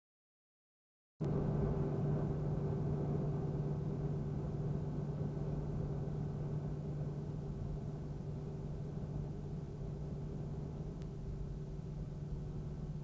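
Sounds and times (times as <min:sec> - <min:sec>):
jet engine cabin hum: 0:01.2 - 0:13.0.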